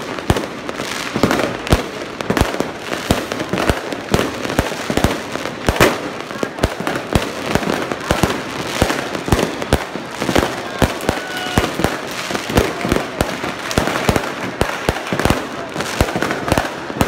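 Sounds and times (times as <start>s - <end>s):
fireworks banging: 0.0s - 17.0s
fireworks crackling: 0.0s - 17.0s.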